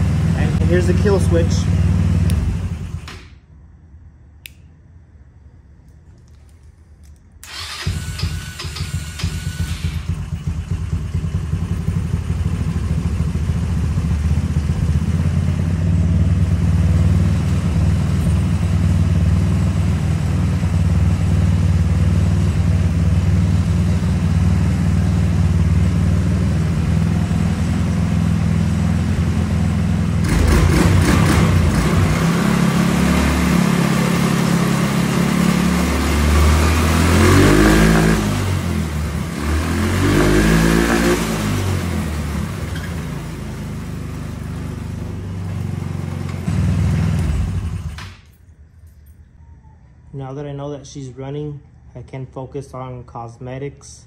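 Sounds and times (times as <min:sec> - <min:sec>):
engine idling and revving: 0:00.0 - 0:03.2, 0:07.4 - 0:48.4.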